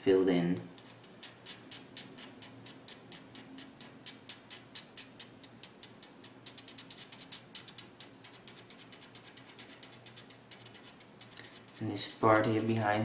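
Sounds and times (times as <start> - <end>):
pen scratching on paper: 0.8 - 13.0.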